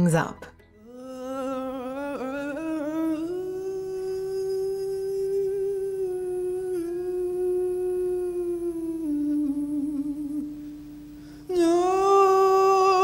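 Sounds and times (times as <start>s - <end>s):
man singing wordless vocal: 0.8s - 13.0s.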